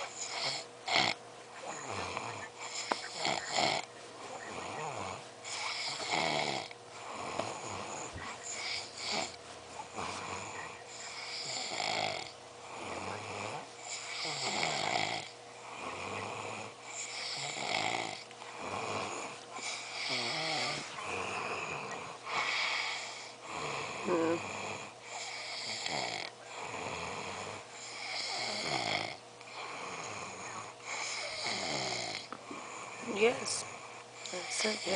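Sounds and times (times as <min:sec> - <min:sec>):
person snoring: 0:00.0 - 0:34.9.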